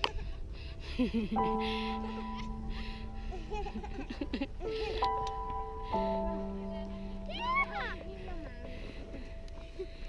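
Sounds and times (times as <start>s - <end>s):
background music: 0.8s - 10.0s.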